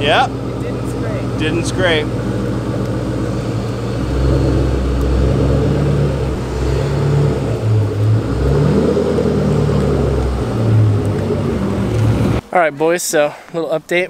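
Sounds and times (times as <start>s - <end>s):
car engine running at low revs: 0.0s - 12.4s.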